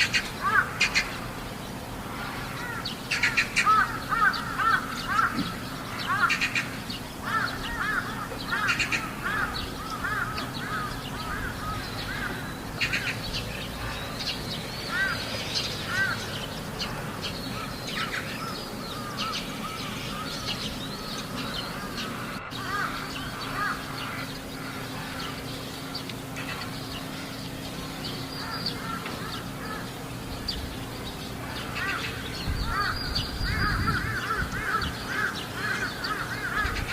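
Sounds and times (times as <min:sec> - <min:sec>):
crows cawing: 0:00.0 - 0:01.3, 0:02.0 - 0:14.2, 0:14.8 - 0:30.4, 0:31.4 - 0:36.9.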